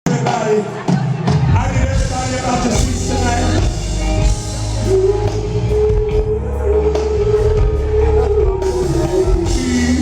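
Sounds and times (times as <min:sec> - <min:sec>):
heavy bass: 0:01.5 - 0:10.0.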